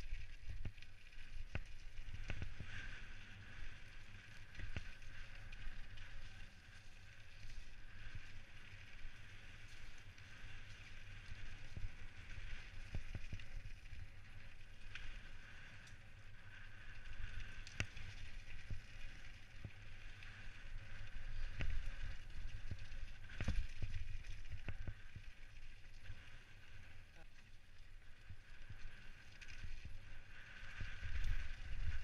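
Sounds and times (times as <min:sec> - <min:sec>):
bike tyres rumbling on dirt: 0:00.0 - 0:32.0.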